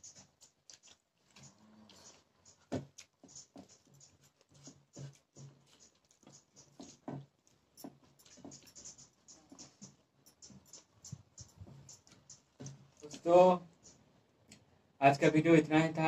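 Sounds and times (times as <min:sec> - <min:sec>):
person chewing with mouth sounds: 0:00.0 - 0:13.2.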